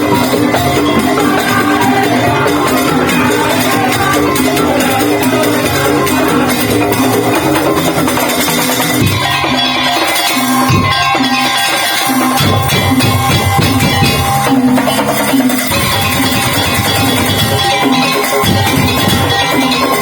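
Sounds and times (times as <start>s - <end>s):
bell-like strikes: 0.0s - 20.0s
drum and percussion ensemble: 0.0s - 20.0s
held melody line: 0.0s - 20.0s.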